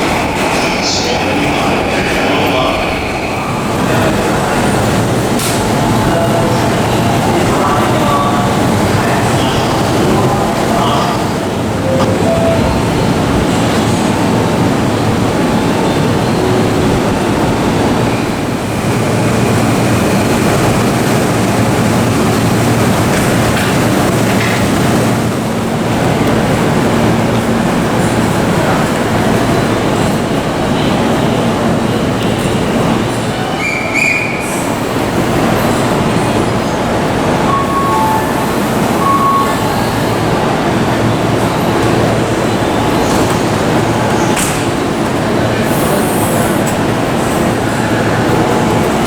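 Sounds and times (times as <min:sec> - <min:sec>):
electric train passing: 0:00.0 - 0:49.0.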